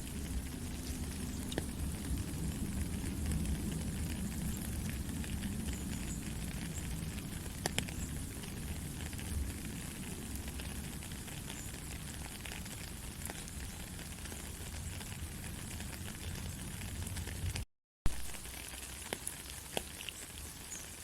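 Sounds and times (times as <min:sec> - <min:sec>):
steady rain falling: 0:00.0 - 0:21.0
water drip ticks: 0:00.0 - 0:21.0.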